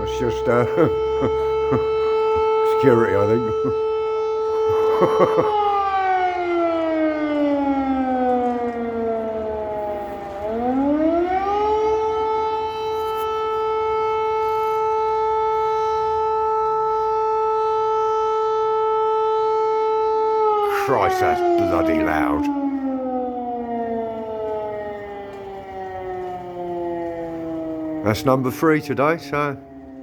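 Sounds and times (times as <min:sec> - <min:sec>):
air raid siren: 0:00.0 - 0:30.0.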